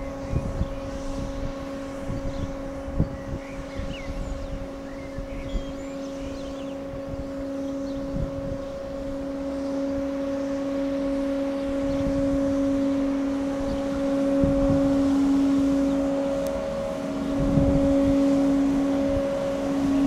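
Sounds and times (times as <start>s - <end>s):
train rolling with hum and rumble: 0.0s - 20.0s.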